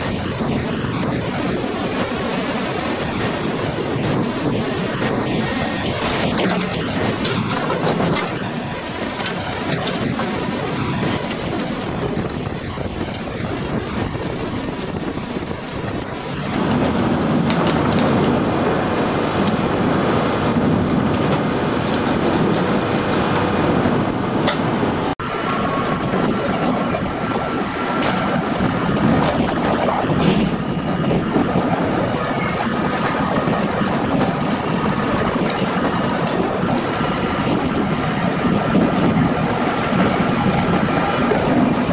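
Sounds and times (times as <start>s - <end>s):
hydraulic log cranes working: 0.0s - 41.9s.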